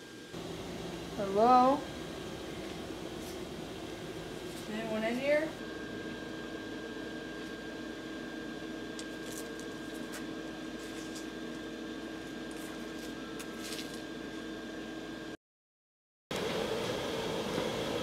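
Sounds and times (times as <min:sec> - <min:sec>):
hum with two held tones: 0:00.0 - 0:15.4.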